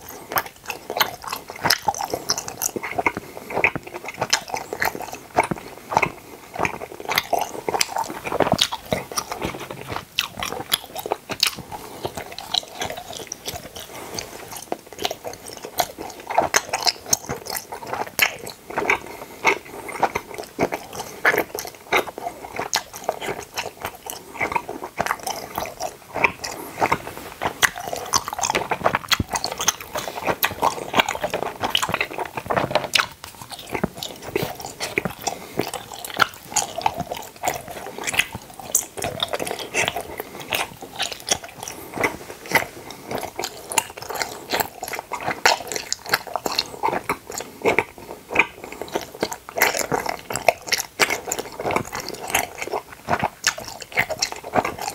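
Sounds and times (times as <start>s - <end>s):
chewing gummy candies: 0.0s - 54.9s.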